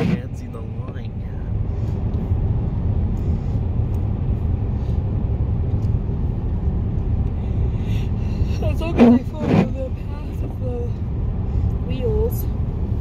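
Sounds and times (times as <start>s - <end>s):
car engine: 0.0s - 13.0s
car tyre and road noise: 0.0s - 13.0s.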